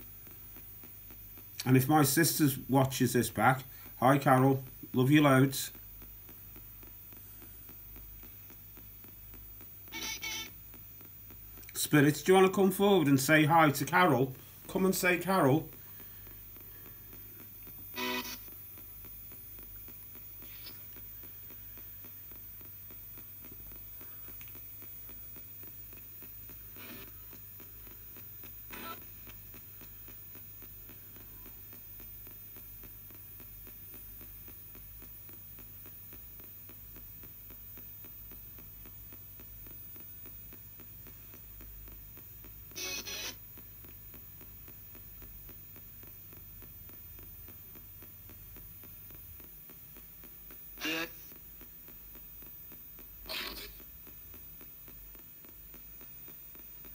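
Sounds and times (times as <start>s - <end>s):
radio sound snatches: 0.0s - 56.9s
static hum and hiss: 0.0s - 56.9s.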